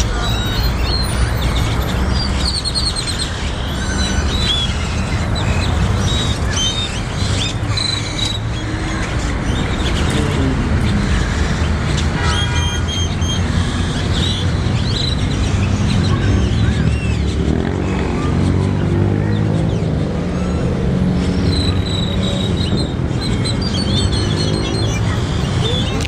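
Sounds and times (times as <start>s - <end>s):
city traffic rumble: 0.0s - 26.0s
small birds chirping: 0.0s - 26.0s.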